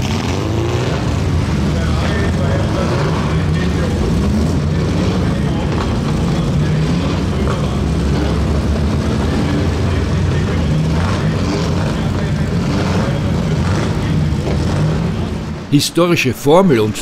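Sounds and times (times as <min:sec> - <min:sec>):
racing car engines idling: 0:00.0 - 0:17.0.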